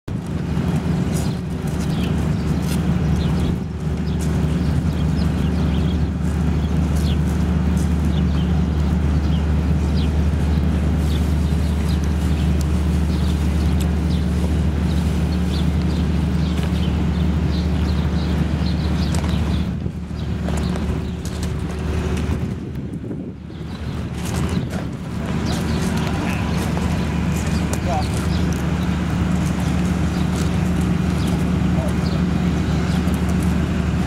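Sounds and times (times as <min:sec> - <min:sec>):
low machinery hum: 0:00.1 - 0:34.0.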